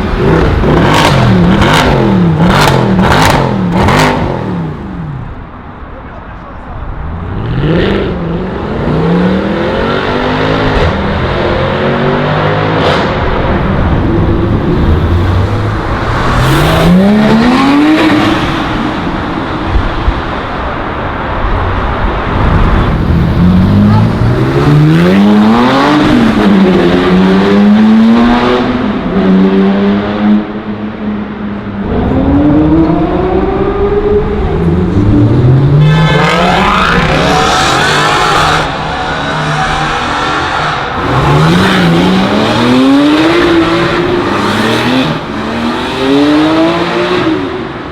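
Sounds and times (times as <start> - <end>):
car engines revving hard: 0.0 - 5.7, 6.9 - 47.9.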